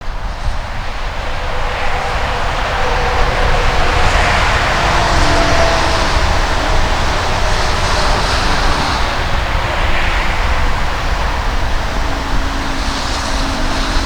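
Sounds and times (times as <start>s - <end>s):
faint whining drive tones: 0.0s - 14.0s
train rolling rumble: 0.0s - 14.0s.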